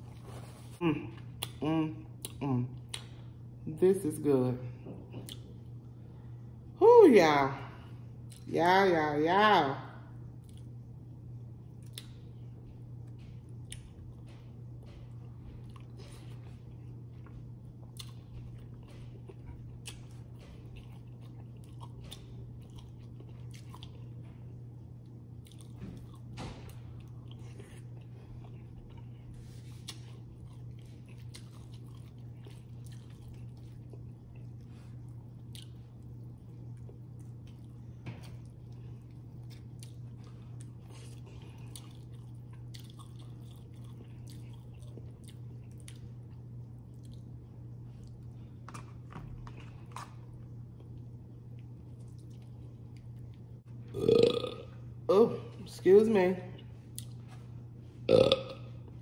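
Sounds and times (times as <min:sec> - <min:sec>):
person chewing food: 0:00.0 - 0:03.3, 0:05.0 - 0:05.8, 0:10.3 - 0:11.0, 0:11.6 - 0:54.6, 0:56.8 - 0:59.0
steady low hum: 0:00.0 - 0:59.0.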